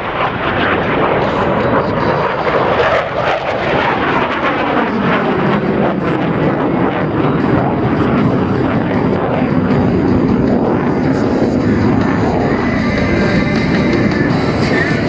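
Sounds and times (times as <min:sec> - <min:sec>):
jet noise flying over: 0:00.0 - 0:15.0.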